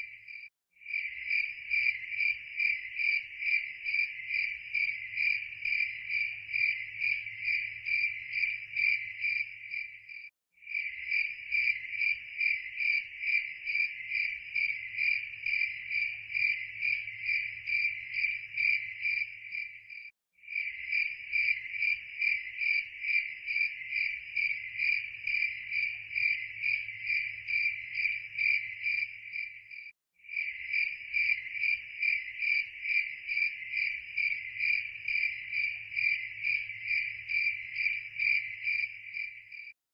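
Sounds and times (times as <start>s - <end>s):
crickets chirping: 0.0s - 39.7s.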